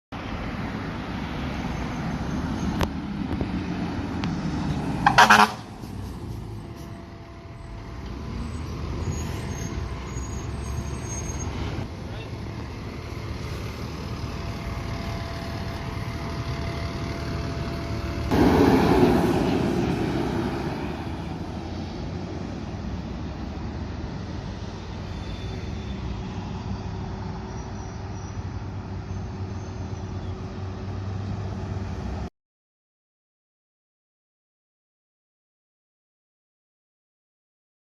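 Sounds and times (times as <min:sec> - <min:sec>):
diesel engine rumbling: 0:00.2 - 0:32.3.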